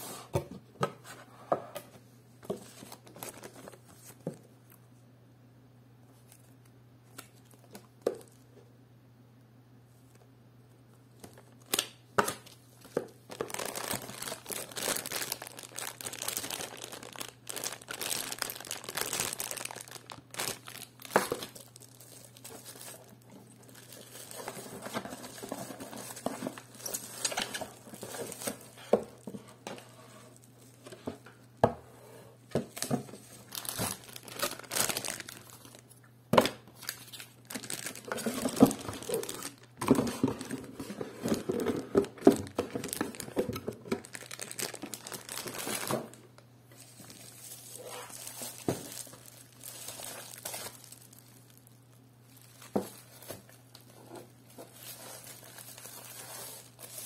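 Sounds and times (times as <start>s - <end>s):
bubble wrap and plastic crinkling: 2.4s - 4.4s, 11.1s - 31.5s, 32.5s - 57.0s.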